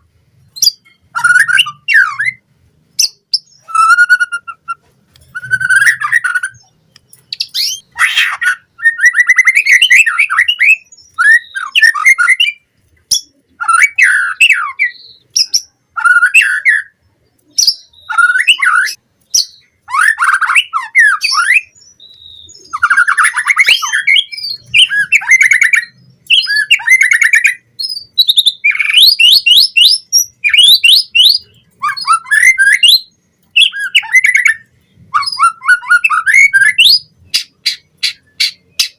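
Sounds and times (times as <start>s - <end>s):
songbird singing whistles and trills: 0.4s - 2.4s, 3.0s - 38.9s.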